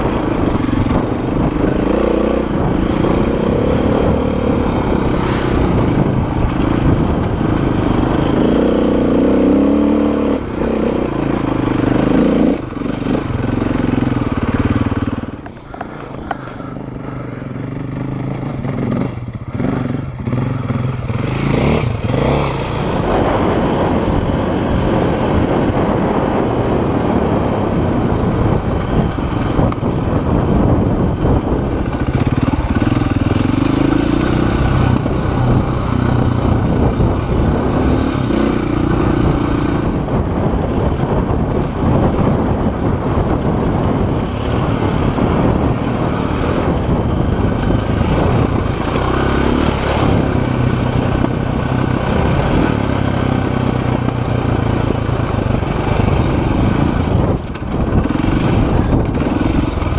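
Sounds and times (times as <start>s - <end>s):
motorcycle engine revving: 0.0s - 59.9s
wind noise on microphone: 0.0s - 59.9s.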